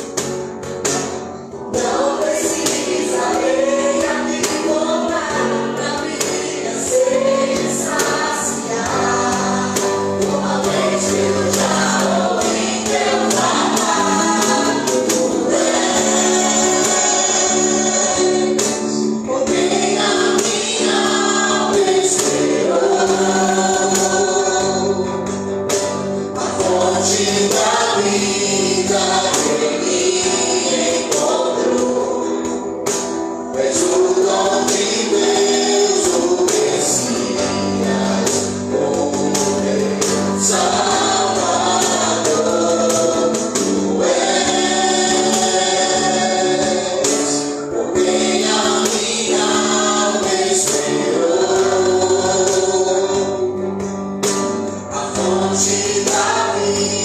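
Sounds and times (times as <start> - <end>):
gospel band playing: 0.0 - 57.0
voices singing: 1.5 - 25.5, 26.2 - 53.7, 54.3 - 57.0.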